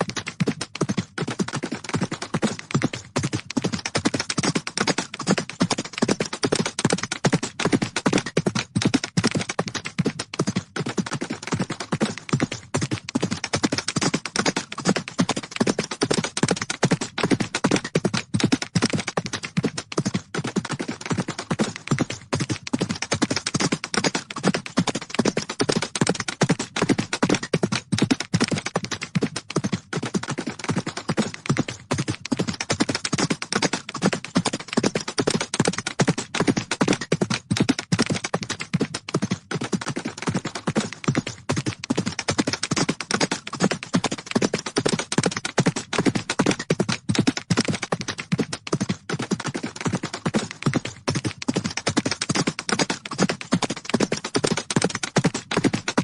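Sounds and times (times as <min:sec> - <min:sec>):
galloping horse hoofbeats: 0:00.0 - 0:56.0.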